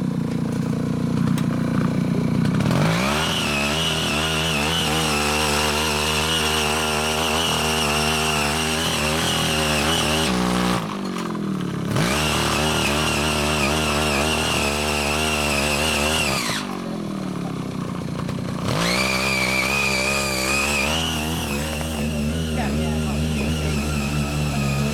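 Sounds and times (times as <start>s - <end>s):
rotary tiller engine running: 0.0s - 24.9s.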